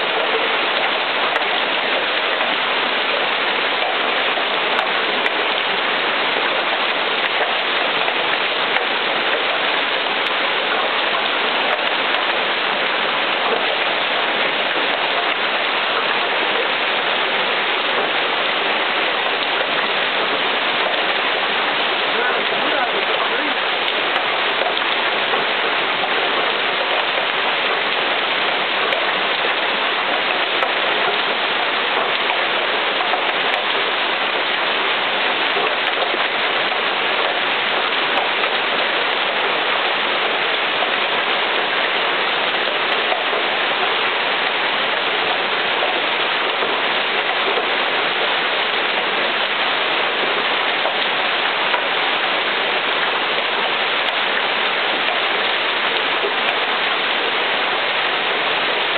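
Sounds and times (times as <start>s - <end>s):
hail and heavy rain falling: 0.0s - 58.9s.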